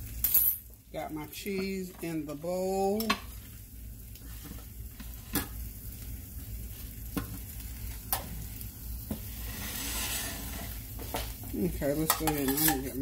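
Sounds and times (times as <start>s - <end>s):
egg sizzling in frying pan: 0.0s - 13.0s.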